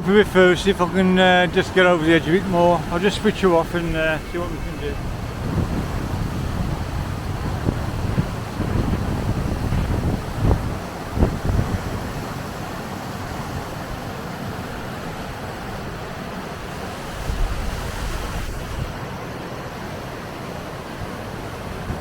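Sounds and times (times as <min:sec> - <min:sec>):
wind gust on microphone: 0:00.0 - 0:19.1, 0:19.9 - 0:22.0
river rushing through rocky gorge: 0:00.0 - 0:22.0.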